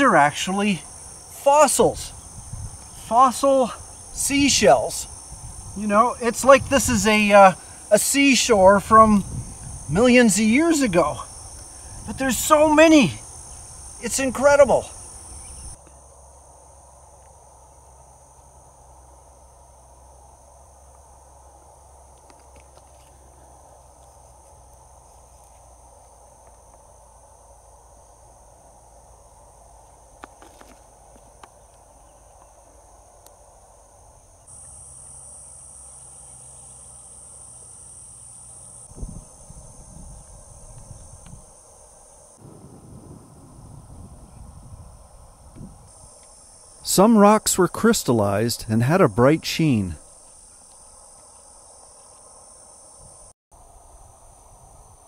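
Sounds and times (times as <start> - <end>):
high-pitched insect trill: 0.0 - 55.0.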